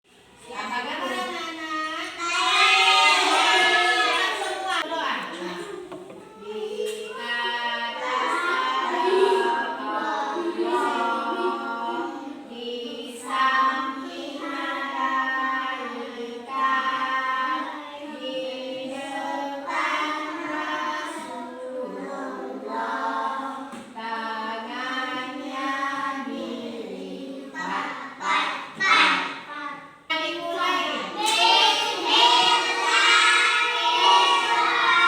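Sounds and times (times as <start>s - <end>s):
children singing together: 2.2s - 4.8s, 5.7s - 35.0s.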